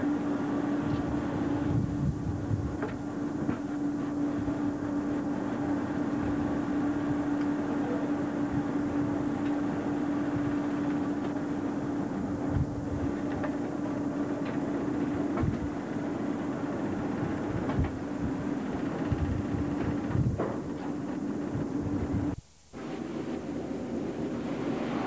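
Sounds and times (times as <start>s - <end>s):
mechanical running hum: 0.0s - 25.0s.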